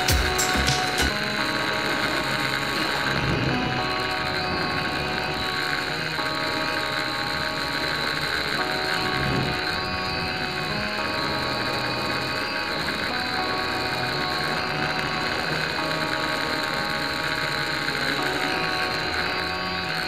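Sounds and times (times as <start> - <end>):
quadcopter propellers whining: 0.0 - 20.0.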